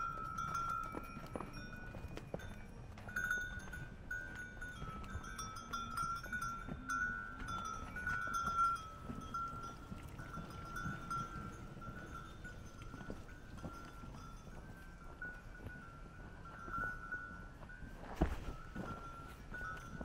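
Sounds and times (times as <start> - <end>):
small bells jingling: 0.0 - 20.0.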